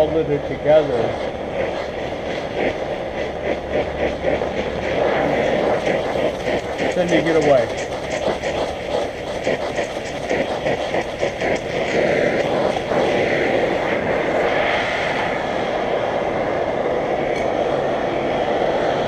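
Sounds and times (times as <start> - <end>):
gas torch flame roaring: 0.0 - 19.0.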